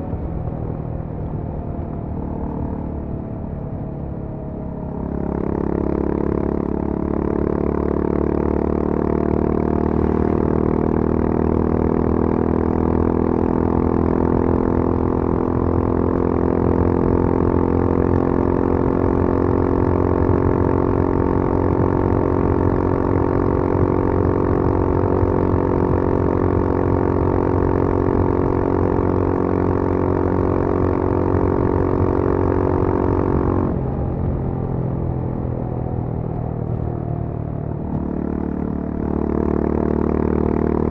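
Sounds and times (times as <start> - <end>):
motorcycle engine at full throttle: 0.0 - 40.9.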